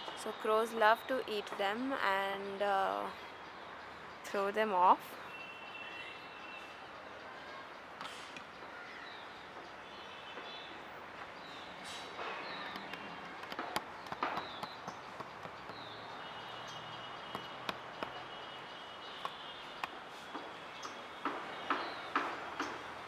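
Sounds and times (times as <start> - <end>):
faint background noise: 0.0 - 23.0.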